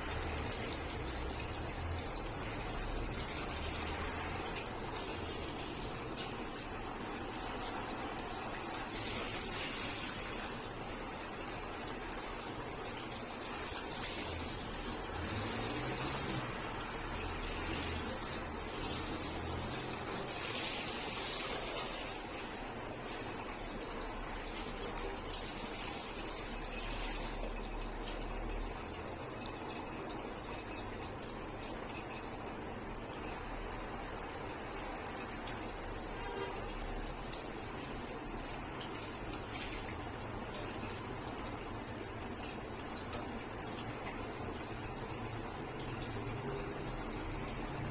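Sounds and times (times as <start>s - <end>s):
running water gushing: 0.0s - 47.9s.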